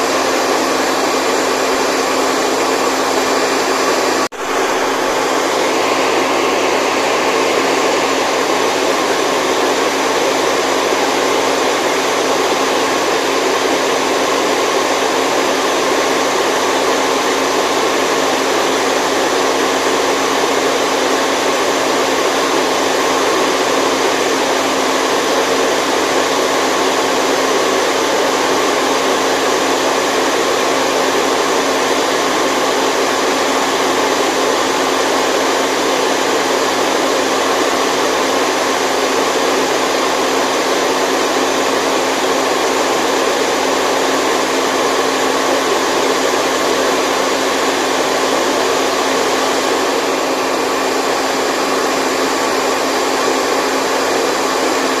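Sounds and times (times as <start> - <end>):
loud rushing white noise: 0.0 - 55.0.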